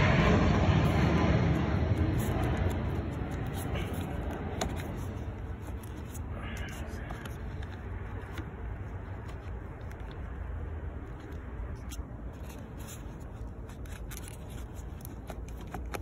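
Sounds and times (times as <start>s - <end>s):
rumble of passing traffic: 0.0s - 16.0s.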